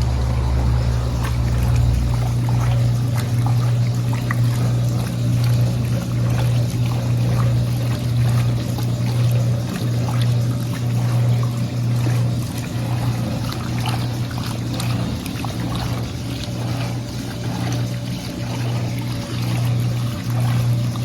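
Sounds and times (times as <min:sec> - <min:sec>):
washing machine motor hum: 0:00.0 - 0:21.0
water sloshing and splashing: 0:00.0 - 0:21.0.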